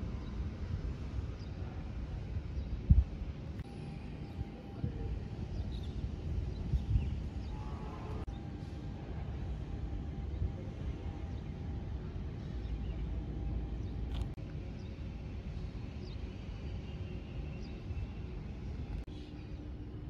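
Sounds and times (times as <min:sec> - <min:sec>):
faint hum: 0:00.0 - 0:20.0
low outdoor rumble: 0:00.0 - 0:20.0.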